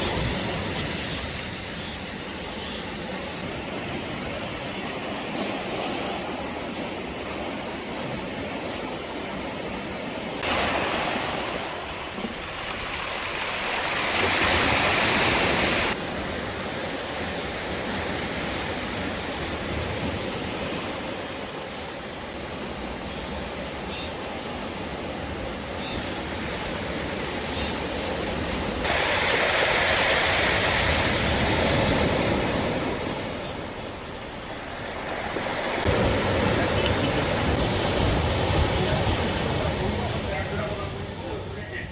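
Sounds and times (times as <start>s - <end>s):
sea waves washing on shore: 0.0s - 41.9s.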